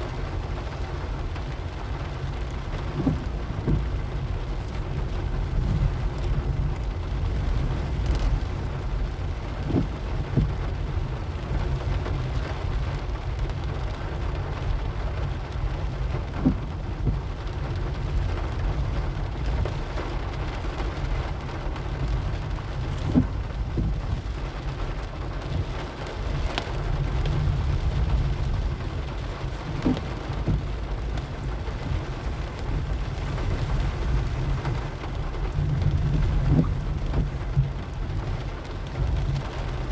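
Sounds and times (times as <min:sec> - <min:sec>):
car driving rumble: 0:00.0 - 0:39.9
steady rain: 0:00.0 - 0:39.9.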